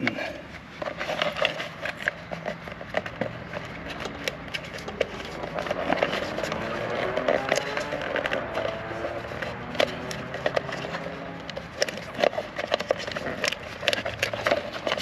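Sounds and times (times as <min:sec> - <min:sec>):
plastic wire loom crackling: 0:00.8 - 0:15.0.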